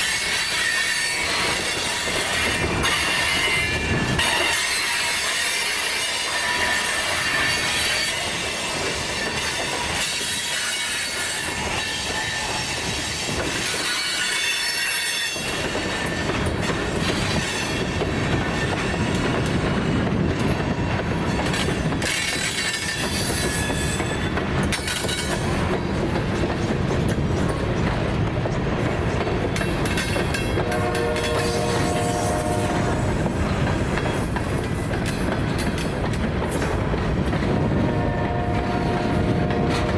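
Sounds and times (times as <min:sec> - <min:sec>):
wheels rumbling on rail: 0:00.0 - 0:39.9.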